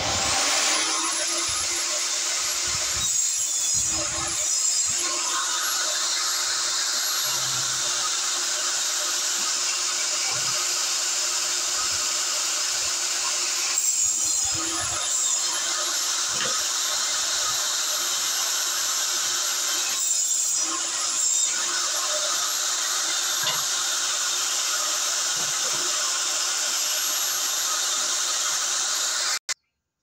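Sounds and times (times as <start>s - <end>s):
table saw motor hum: 0.0s - 29.6s.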